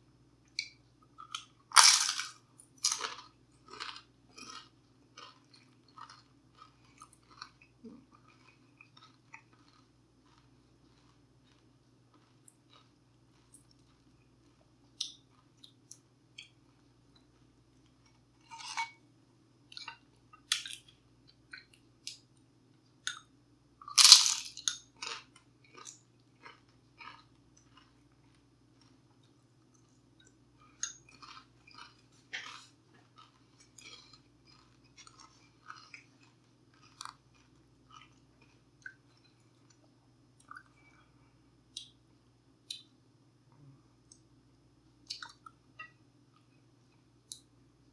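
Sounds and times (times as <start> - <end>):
faint steady hum: 0.0 - 47.9
chewing and crunching food: 0.4 - 19.0, 19.6 - 44.3, 45.0 - 47.6.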